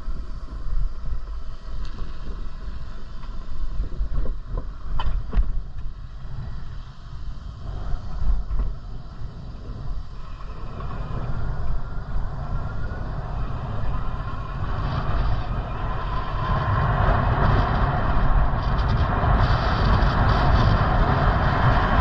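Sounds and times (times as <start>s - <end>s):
bicycle road noise: 0.0s - 22.0s
wind buffeting microphone: 0.0s - 22.0s.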